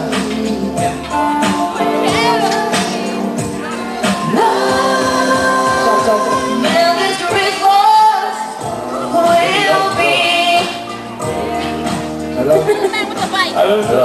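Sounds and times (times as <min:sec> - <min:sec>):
people singing: 0:00.0 - 0:12.0
amplified backing track: 0:00.0 - 0:14.0.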